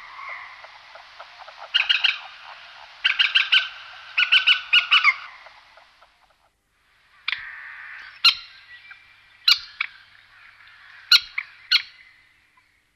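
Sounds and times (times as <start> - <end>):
moorhen calling: 0.0 - 12.8
faint steady hiss: 0.0 - 12.9.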